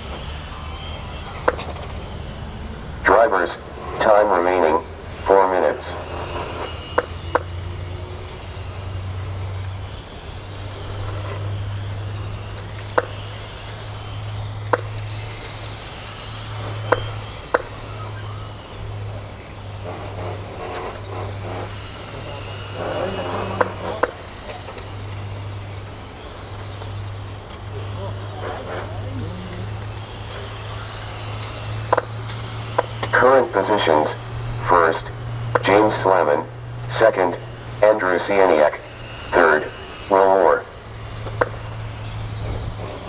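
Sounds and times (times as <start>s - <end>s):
rc cars motor whine: 0.0s - 43.0s.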